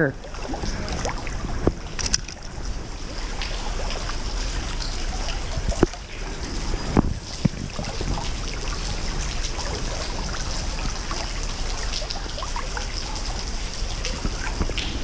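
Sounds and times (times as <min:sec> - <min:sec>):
stream water running: 0:00.0 - 0:15.0
water trickling and splashing: 0:00.0 - 0:15.0.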